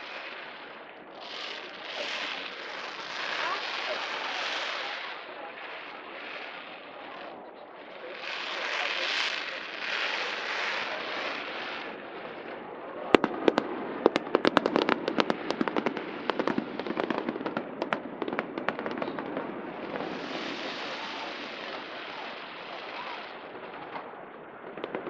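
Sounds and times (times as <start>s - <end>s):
fireworks cracking: 0.0s - 25.0s
steady rushing noise: 0.0s - 25.0s.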